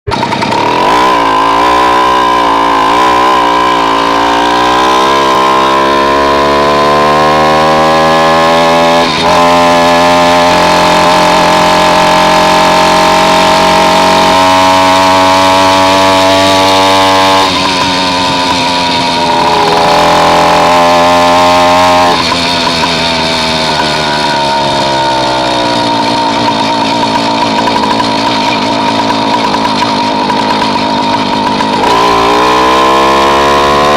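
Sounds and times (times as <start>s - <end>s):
small engine revving: 0.1s - 33.9s.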